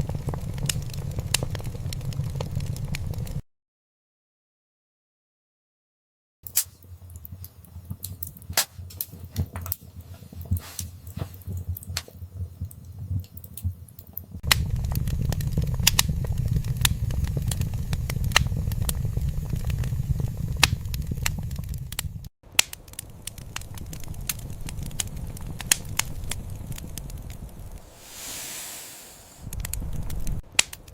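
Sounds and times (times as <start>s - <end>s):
low rumble of flame: 0.0s - 3.4s, 6.8s - 30.4s
wood fire crackling and popping: 0.0s - 3.4s, 6.5s - 30.9s.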